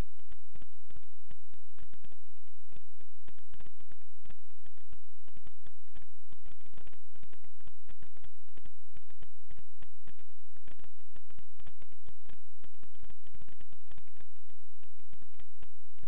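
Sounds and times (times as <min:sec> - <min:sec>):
crackling clicks: 0:00.0 - 0:16.0.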